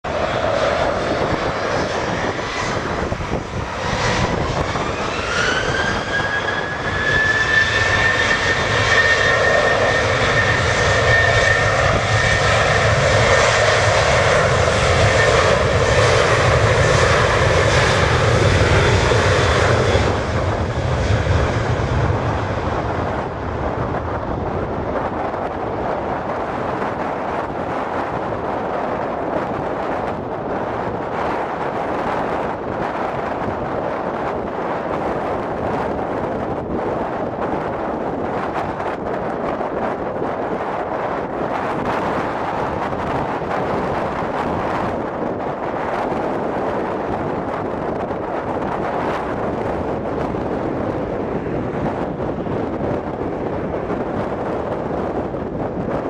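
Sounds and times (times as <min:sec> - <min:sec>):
jet engine rumble: 0:00.0 - 0:56.0
jet engine whine: 0:00.0 - 0:56.0.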